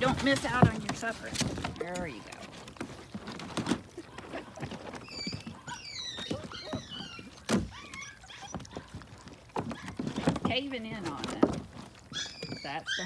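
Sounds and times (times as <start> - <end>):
small knocks: 0.0 - 12.7
puppies whining and squeaking: 0.0 - 13.0.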